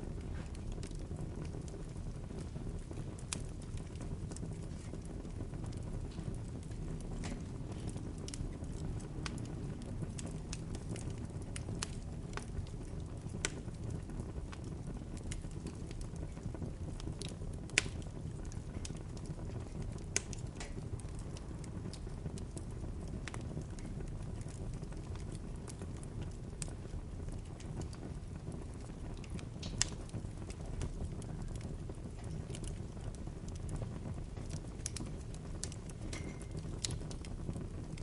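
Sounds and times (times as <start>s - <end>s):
bonfire crackling and popping: 0.0s - 38.0s
low rumble of flames: 0.0s - 38.0s.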